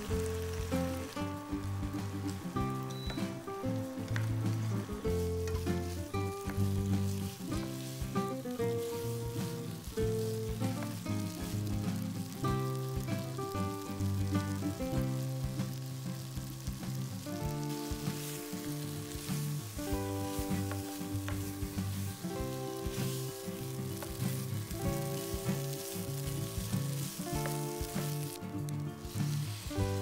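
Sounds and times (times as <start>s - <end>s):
background music with sustained chords: 0.0s - 16.5s, 17.2s - 30.0s
meat frying sizzle: 0.0s - 30.0s.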